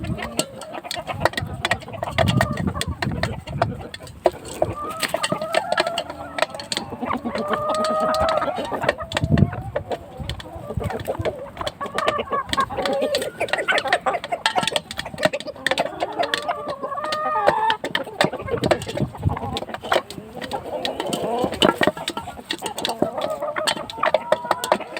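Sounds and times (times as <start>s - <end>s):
chicken drawn-out calls: 0.0s - 24.9s
chickens clucking: 0.0s - 24.9s.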